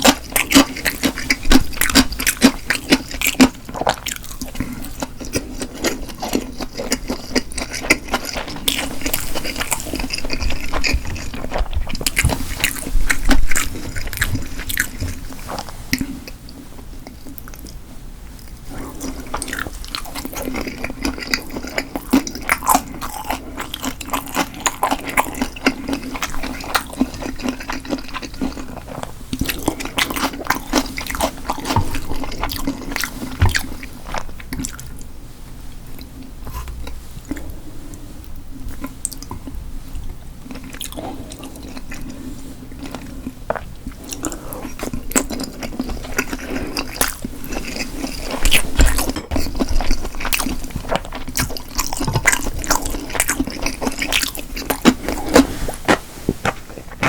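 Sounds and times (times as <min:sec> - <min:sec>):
person chewing and eating: 0:00.0 - 0:57.0.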